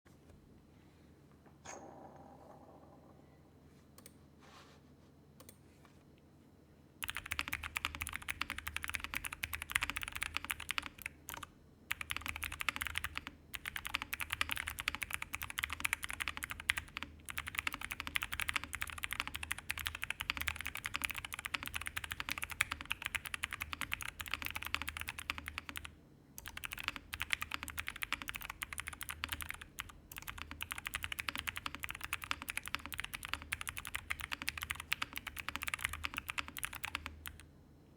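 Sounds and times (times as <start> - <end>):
mechanical keyboard typing: 7.0 - 37.4.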